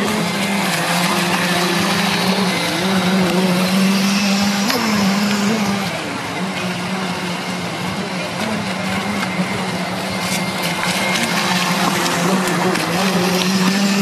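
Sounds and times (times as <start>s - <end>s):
model boat engine buzzing: 0.0s - 14.0s
water splashing: 0.0s - 14.0s.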